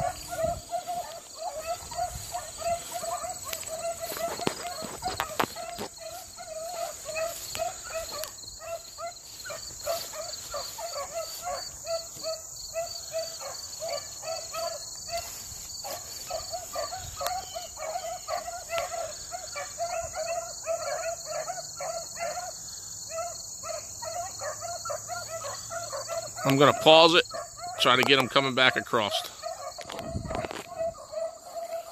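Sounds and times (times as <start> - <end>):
hounds baying in the distance: 0.0 - 31.9
insects trilling: 0.0 - 31.9.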